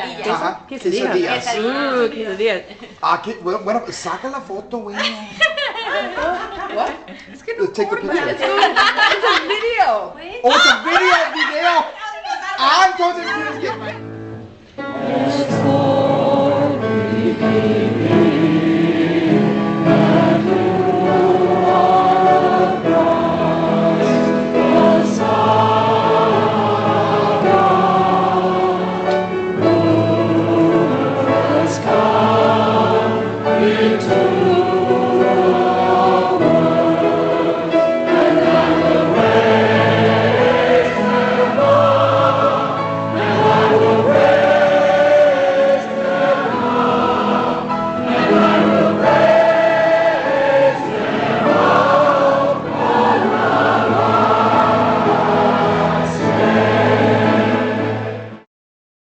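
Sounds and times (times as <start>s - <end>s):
choir singing: 0.0s - 2.2s, 13.0s - 58.5s.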